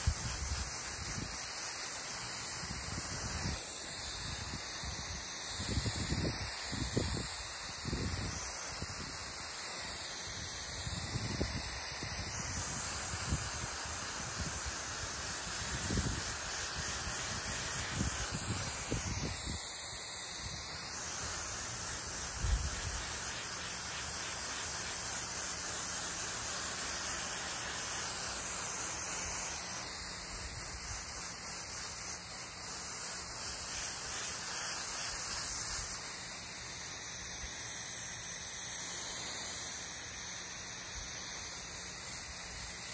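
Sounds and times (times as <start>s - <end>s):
garden hose spraying water: 0.0s - 42.9s.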